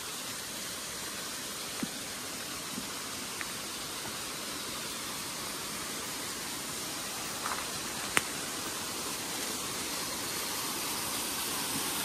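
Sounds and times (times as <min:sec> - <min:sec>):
water rushing from a spring: 0:00.0 - 0:12.0.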